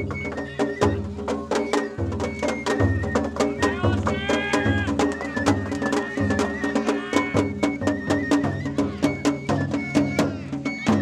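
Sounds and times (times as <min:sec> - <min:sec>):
high bamboo flute melody: 0:00.0 - 0:11.0
taiko drums beating quickly: 0:00.0 - 0:11.0.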